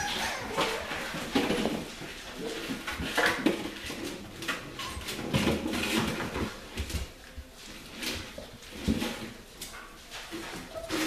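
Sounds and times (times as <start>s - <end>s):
plastic jug clattering on tiles: 0.0s - 7.2s, 7.8s - 11.0s.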